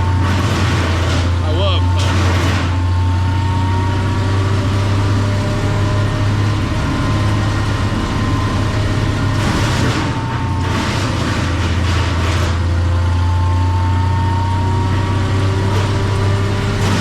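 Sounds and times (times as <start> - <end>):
wood chipper engine humming: 0.0 - 17.0.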